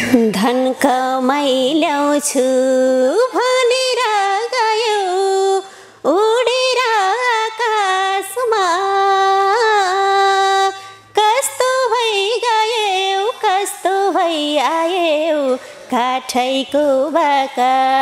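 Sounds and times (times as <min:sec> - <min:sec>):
woman singing unaccompanied: 0:00.0 - 0:18.0.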